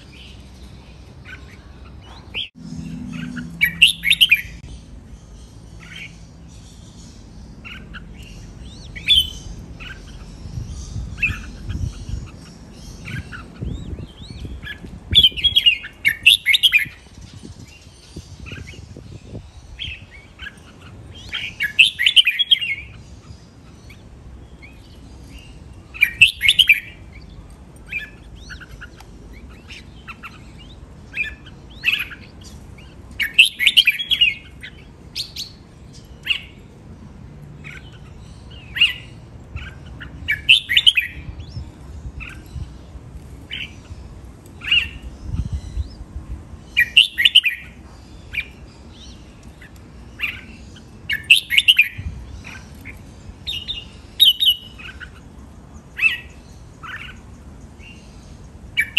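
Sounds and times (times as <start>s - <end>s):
bird singing quick chirps: 0.0s - 24.0s, 24.6s - 27.3s, 27.9s - 36.6s, 37.6s - 42.8s, 44.6s - 55.2s.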